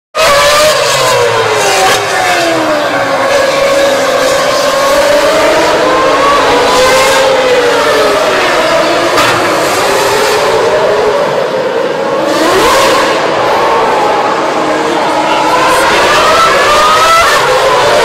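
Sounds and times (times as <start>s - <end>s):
racing car engines at high revs: 0.2s - 18.0s.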